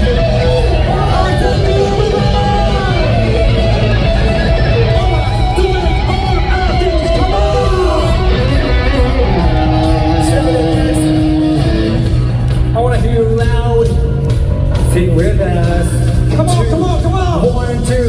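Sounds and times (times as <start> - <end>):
electric guitars: 0.0 - 18.0
live rock band playing: 0.0 - 18.0.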